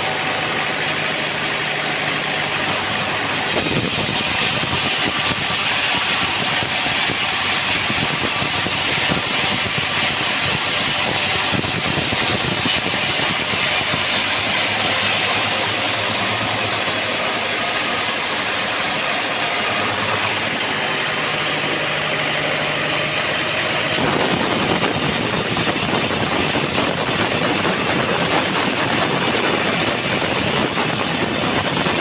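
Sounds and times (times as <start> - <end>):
bandsaw sawmill running: 0.0 - 32.0.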